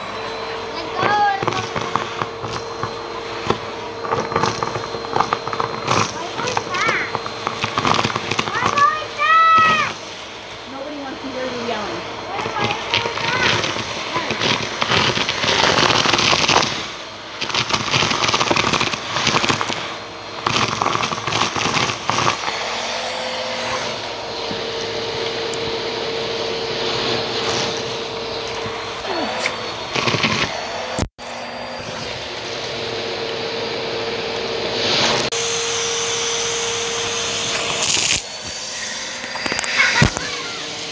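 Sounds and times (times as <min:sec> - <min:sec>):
vacuum cleaner motor humming: 0:00.0 - 0:40.9
debris rattling up vacuum hose: 0:00.5 - 0:40.9.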